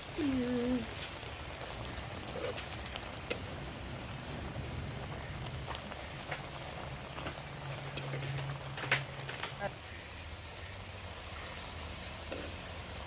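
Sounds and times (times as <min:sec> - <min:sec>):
food sizzling in a pan: 0:00.0 - 0:13.0
sharp crackles: 0:00.0 - 0:13.0.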